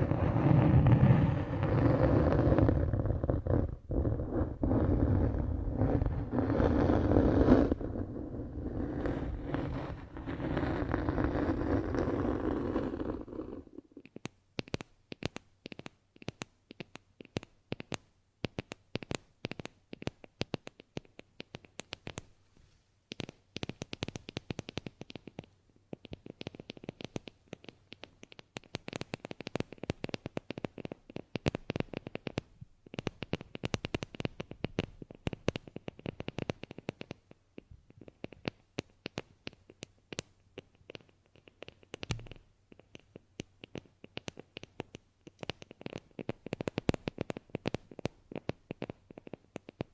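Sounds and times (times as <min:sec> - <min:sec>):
rapid crackling clicks and scratches: 0:00.0 - 0:22.4, 0:23.1 - 0:49.9.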